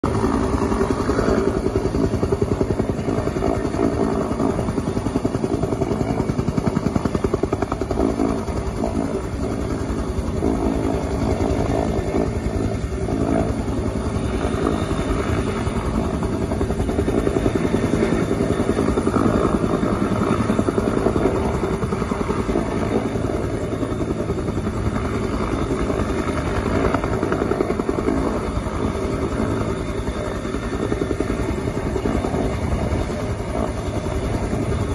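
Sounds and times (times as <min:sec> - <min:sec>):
helicopter rotor pulsing: 0:00.0 - 0:34.9.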